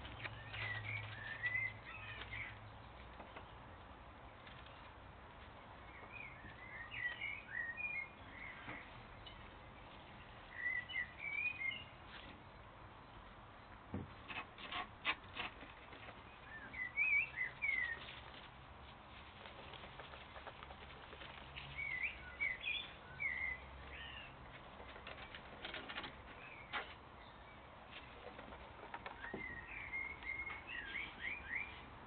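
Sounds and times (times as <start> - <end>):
faint outdoor background: 0.0 - 32.0.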